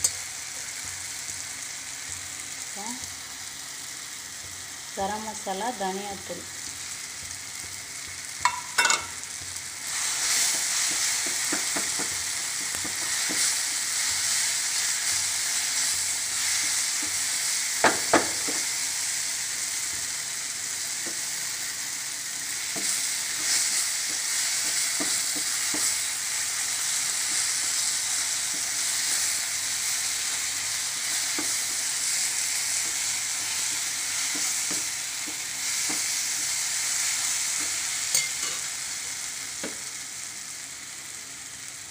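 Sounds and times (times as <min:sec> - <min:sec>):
masala sizzling in a pan: 0:00.0 - 0:41.9.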